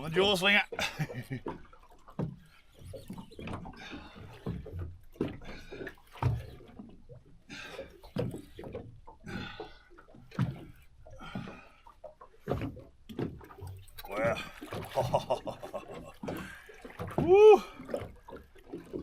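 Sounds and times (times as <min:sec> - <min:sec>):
water slapping against boat hull: 0:00.0 - 0:19.0.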